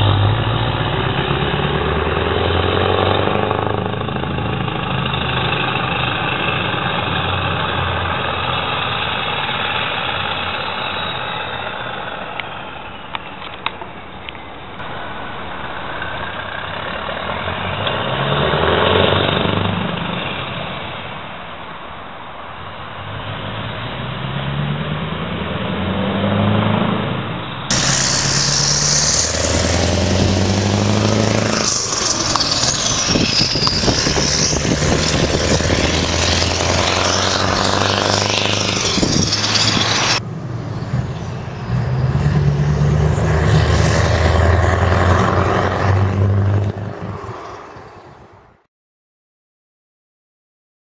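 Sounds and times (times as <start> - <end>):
truck engine accelerating: 0.0 - 21.1, 23.0 - 48.4.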